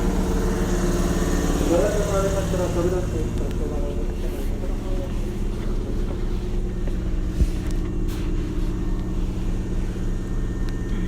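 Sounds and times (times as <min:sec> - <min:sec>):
train motors and wheels rumbling: 0:00.0 - 0:11.0.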